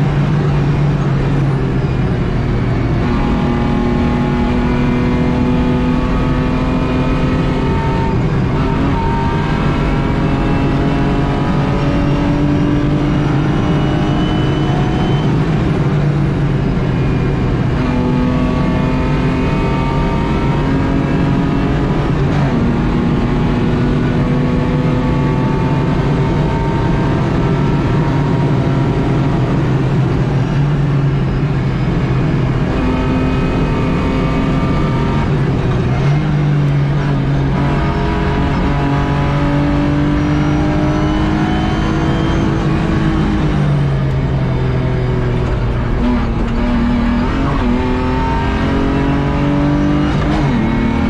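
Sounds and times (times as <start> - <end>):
car engine under load: 0.0 - 51.0
road and wind noise: 0.0 - 51.0.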